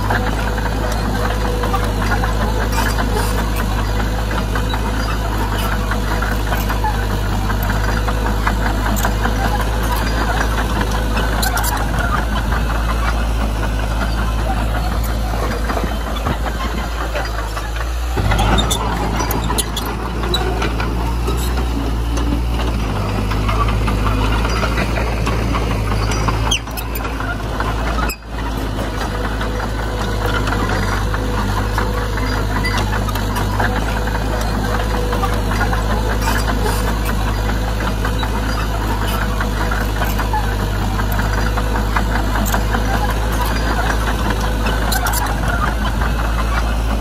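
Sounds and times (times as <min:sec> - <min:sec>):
heavy diesel engines droning: 0:00.0 - 0:47.0.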